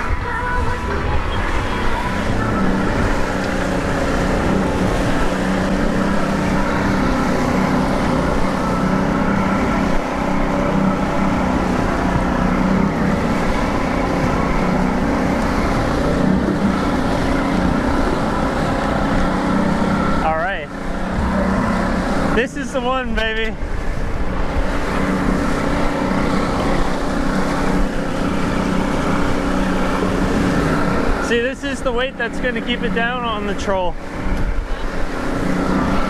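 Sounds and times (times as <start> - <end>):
outboard motor drone: 0.0 - 36.0
water rushing: 0.0 - 36.0
wind on microphone: 0.0 - 36.0.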